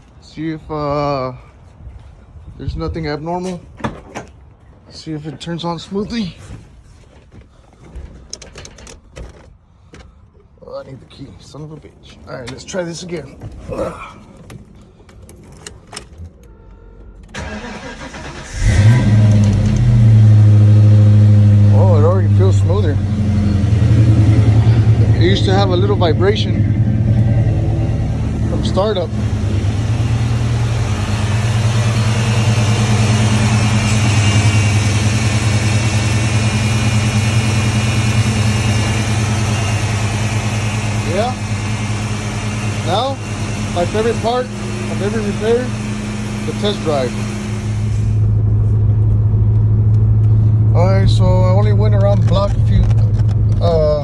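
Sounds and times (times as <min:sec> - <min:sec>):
car engine starting and idling: 0:02.6 - 0:54.0.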